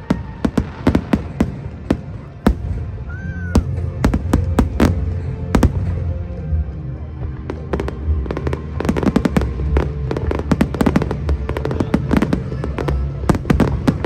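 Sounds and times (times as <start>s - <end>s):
fireworks bangs and crackles: 0.0s - 6.6s, 7.2s - 14.0s
background music: 0.0s - 14.0s.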